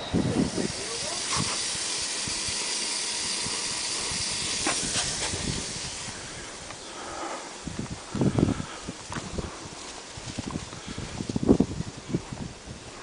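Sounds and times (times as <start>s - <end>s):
water hissing from hose: 0.0s - 11.6s.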